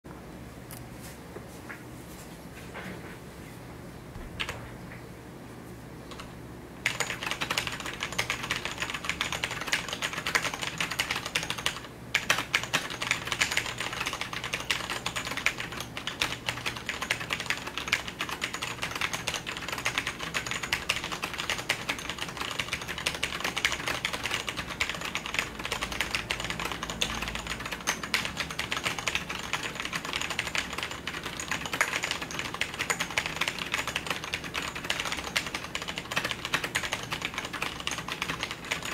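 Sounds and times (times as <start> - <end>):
mechanical keyboard typing: 6.1 - 38.9.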